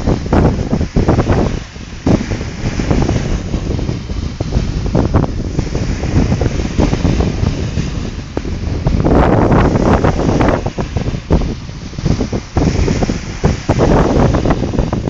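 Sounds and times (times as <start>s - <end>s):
small waves breaking on sand: 0.0s - 15.0s
wind buffeting microphone: 0.0s - 15.0s.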